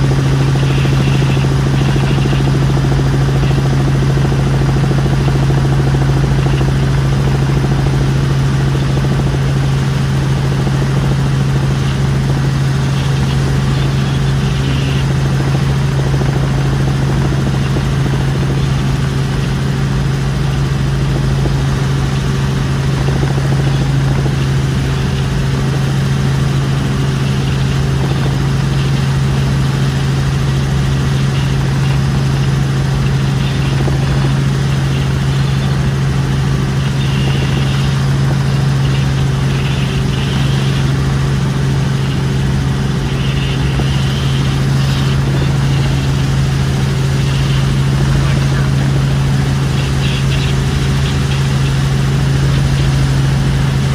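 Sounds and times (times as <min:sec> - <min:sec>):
helicopter rotor and engine drone: 0:00.0 - 0:53.9.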